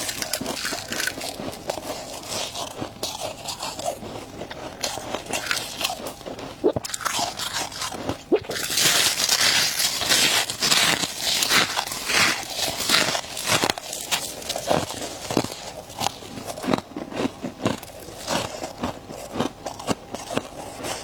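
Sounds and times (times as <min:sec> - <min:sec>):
crunching of frost and ice: 0:00.0 - 0:21.0.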